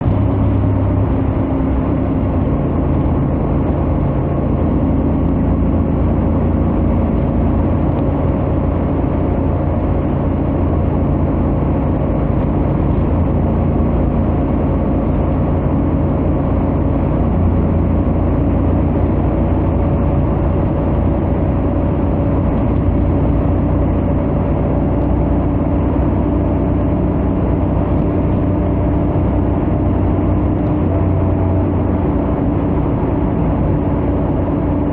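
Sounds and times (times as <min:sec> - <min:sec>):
motorcycle engine cruising: 0:00.0 - 0:34.9
wind and road noise: 0:00.0 - 0:34.9.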